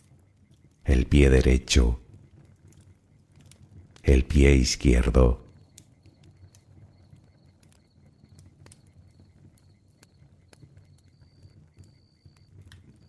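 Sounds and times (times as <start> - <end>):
bonfire crackling: 0.0 - 13.0
low rumble of flames: 0.0 - 13.0.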